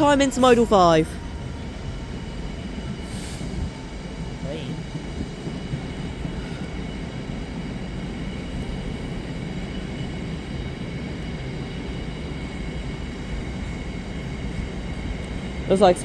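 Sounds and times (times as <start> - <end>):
freight train wagons rolling: 0.0 - 16.0.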